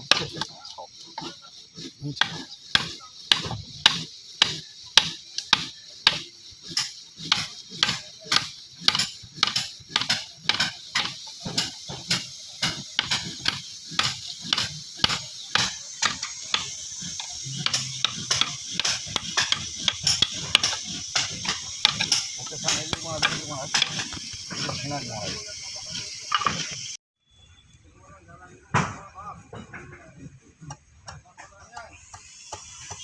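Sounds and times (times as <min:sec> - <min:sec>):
hand tool striking wood: 0:00.0 - 0:26.8, 0:28.7 - 0:33.0.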